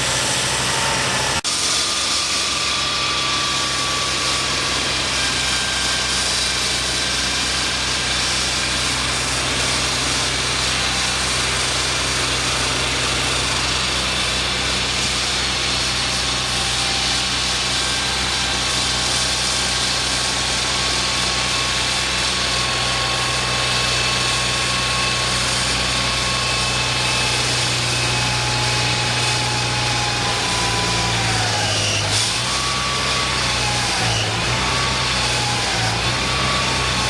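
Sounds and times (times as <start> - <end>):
whining tone: 0.0 - 37.0.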